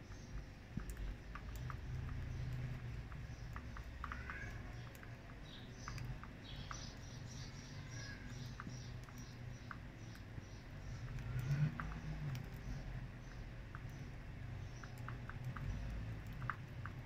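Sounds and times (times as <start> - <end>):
beaks clicking on seed: 0.0 - 17.0.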